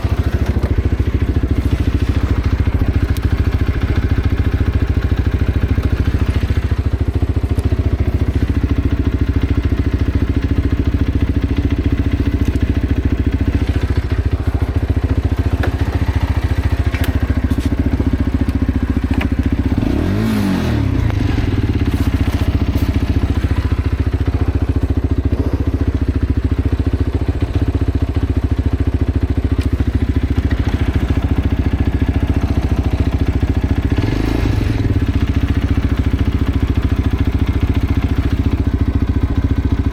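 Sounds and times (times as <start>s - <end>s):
motorcycle engine revving: 0.0s - 39.9s
motorcycle engine running: 0.0s - 39.9s.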